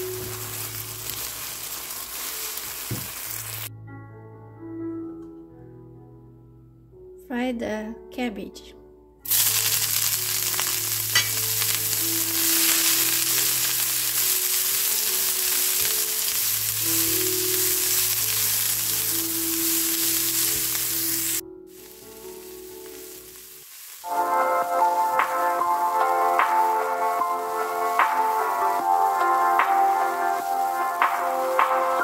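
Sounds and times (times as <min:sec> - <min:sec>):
cabbage sizzling in oil: 0:00.0 - 0:03.7, 0:09.3 - 0:32.0
soft background music: 0:00.0 - 0:32.0.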